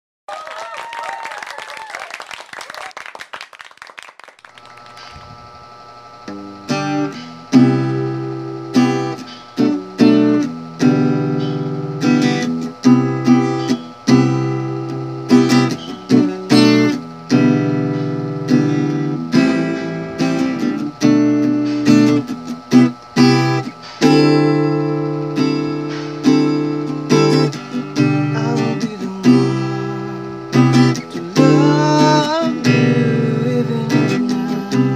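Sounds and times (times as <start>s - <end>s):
acoustic guitar strumming: 6.2s - 34.9s.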